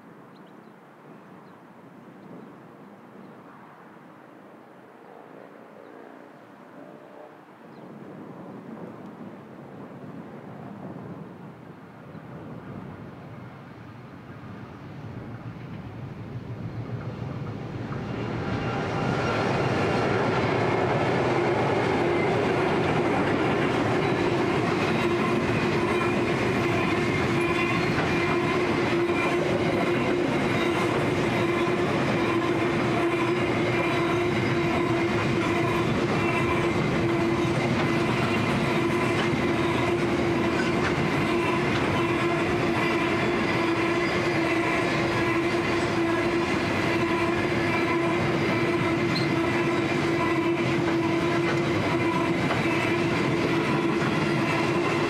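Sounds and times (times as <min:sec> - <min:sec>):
diesel locomotives passing: 0:03.5 - 0:55.0.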